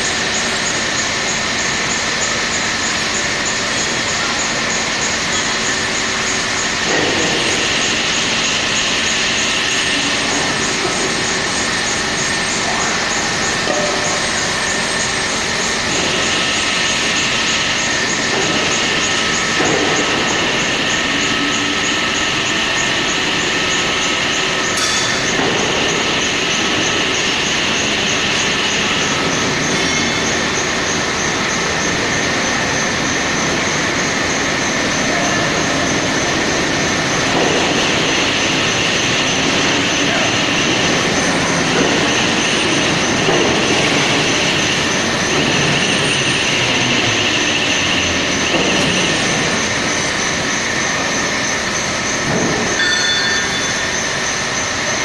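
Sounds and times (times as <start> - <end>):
hydraulic press whining: 0.0 - 55.0
press squealing: 0.0 - 55.0.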